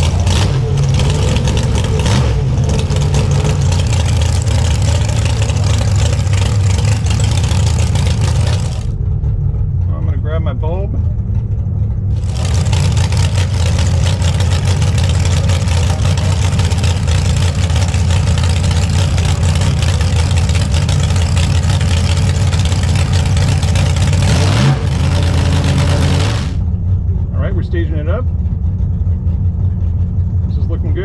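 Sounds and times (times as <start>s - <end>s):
dragster engine idling: 0.0s - 31.0s.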